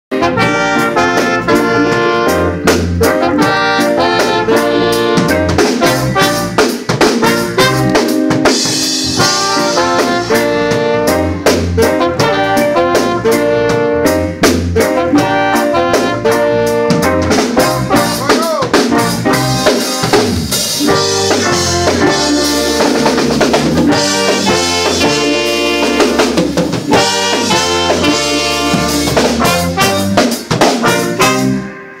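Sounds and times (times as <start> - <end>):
drum kit steady beat: 0.1 - 31.7
alto saxophone: 0.1 - 32.0
electric guitar: 0.1 - 32.0
trumpets: 0.1 - 32.0.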